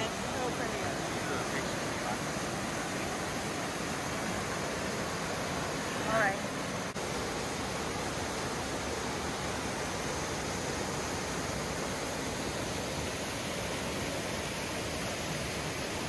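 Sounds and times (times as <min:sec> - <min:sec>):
creek rushing over boulders: 0:00.0 - 0:16.0.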